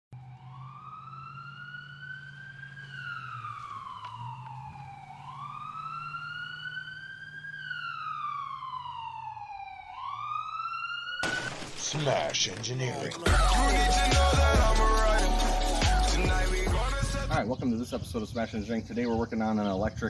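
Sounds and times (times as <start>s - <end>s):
siren wailing: 0.1s - 17.4s.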